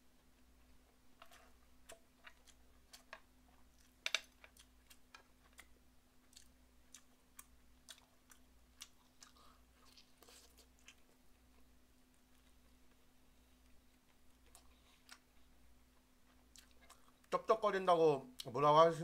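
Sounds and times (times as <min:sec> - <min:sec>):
chewing and lip-smacking: 0:01.3 - 0:17.4.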